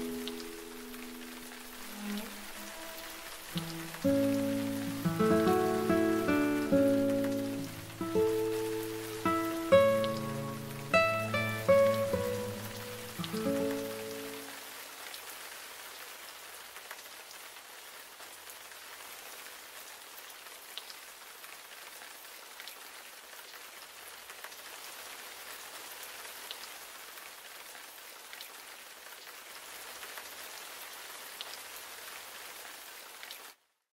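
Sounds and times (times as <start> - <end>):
rain on hard surface: 0.0 - 33.9.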